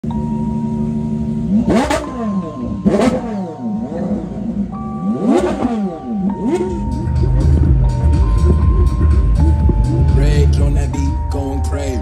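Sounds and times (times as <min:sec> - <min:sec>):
steady held tone: 0:00.0 - 0:12.0
car engine revving: 0:00.1 - 0:12.0.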